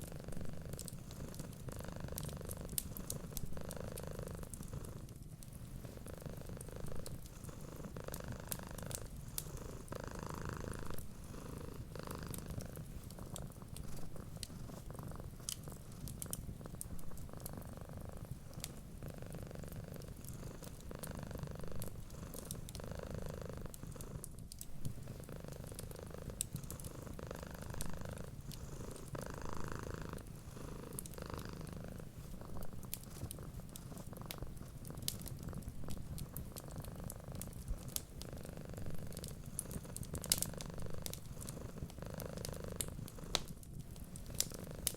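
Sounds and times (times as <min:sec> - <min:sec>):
cat purring: 0:00.0 - 0:44.9
wood fire crackling: 0:00.0 - 0:44.9.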